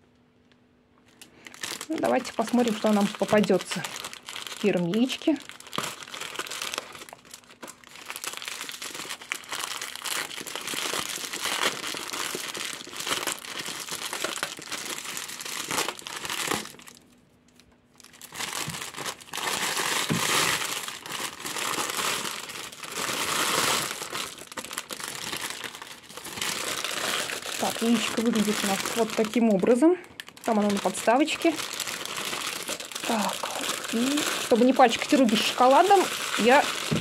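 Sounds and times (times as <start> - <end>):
foil wrapper crinkling: 1.0 - 37.0.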